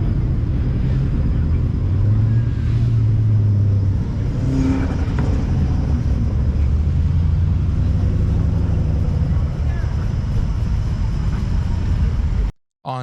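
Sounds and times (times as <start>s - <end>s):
car engine droning: 0.0s - 12.5s.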